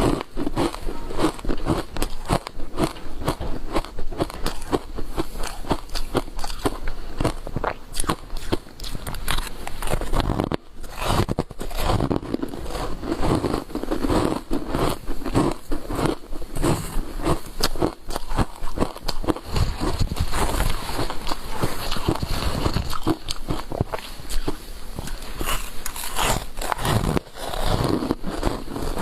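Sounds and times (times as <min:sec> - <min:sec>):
ice crunching being chewed: 0:00.0 - 0:29.0.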